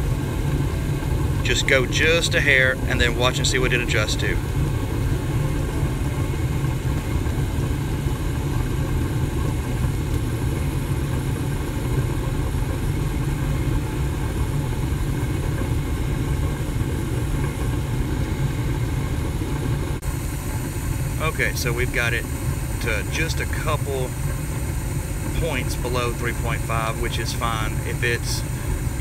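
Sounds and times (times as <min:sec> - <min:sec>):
gas furnace rumbling: 0:00.0 - 0:29.0.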